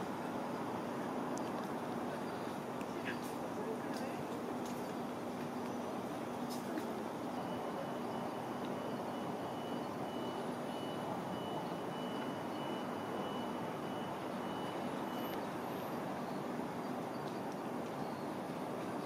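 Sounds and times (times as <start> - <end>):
distant city traffic hum: 0.0 - 19.0.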